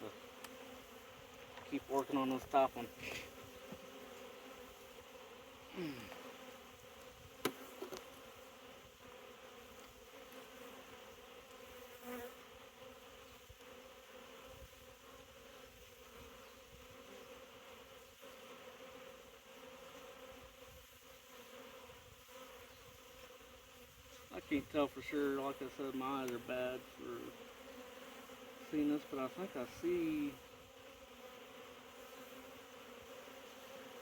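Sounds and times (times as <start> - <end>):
honeybees humming: 0.0 - 34.0.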